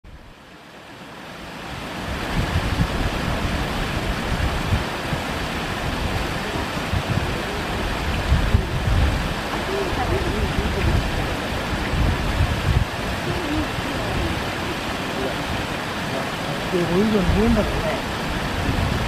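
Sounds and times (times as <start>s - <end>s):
river water rushing: 0.1s - 19.0s
wind buffeting microphone: 1.7s - 19.0s.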